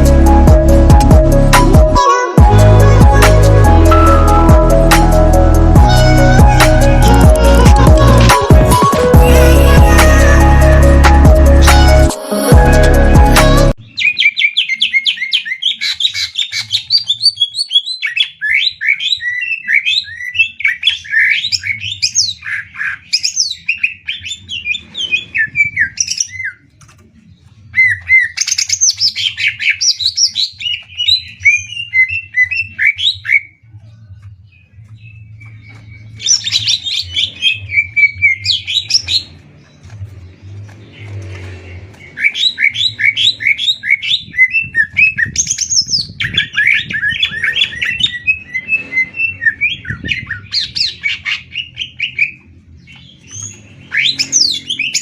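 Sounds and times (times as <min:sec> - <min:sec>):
birds singing: 0:02.4 - 0:55.0.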